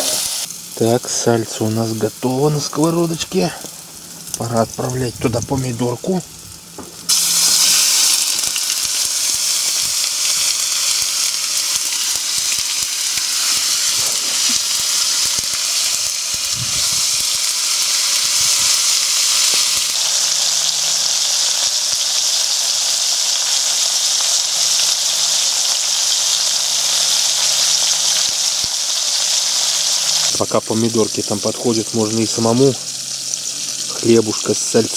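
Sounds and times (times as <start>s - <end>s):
tomatoes sizzling in a frying pan: 0.0s - 34.9s.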